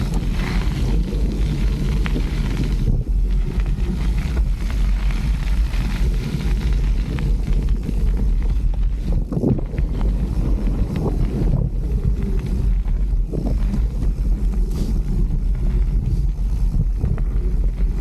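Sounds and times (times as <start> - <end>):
bike knocking and rattling: 0.0 - 18.0
tyres rumbling on dirt: 0.0 - 18.0
wind buffeting microphone: 0.0 - 18.0.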